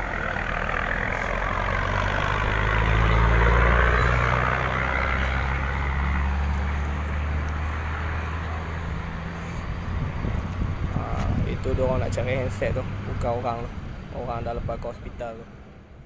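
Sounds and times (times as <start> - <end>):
vehicle passing on road: 0.0 - 16.0.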